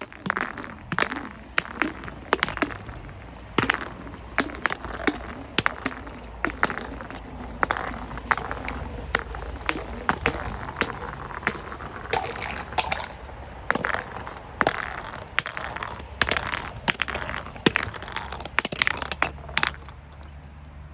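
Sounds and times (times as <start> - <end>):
crunchy objects being crushed: 0.0 - 20.4.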